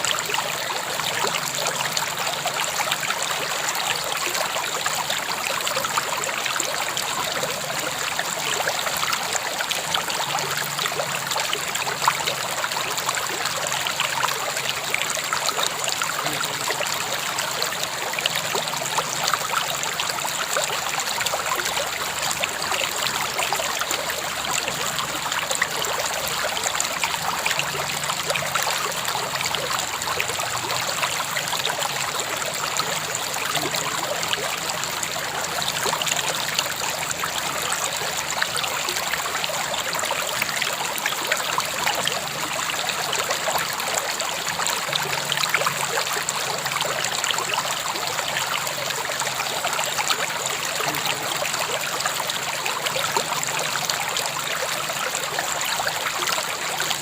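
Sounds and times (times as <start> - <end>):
river water rushing and trickling: 0.0 - 57.0.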